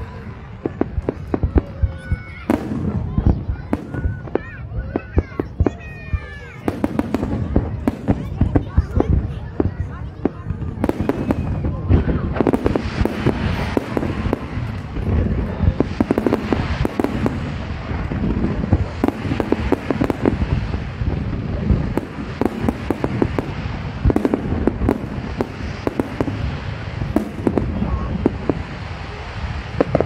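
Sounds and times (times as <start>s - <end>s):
deep rumble of bursts: 0.0s - 30.0s
fireworks bangs and crackles: 0.0s - 30.0s.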